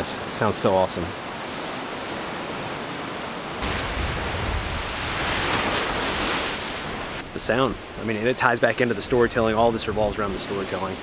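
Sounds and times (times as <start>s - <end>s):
waves washing onto beach: 0.0s - 11.0s
wind: 0.0s - 11.0s.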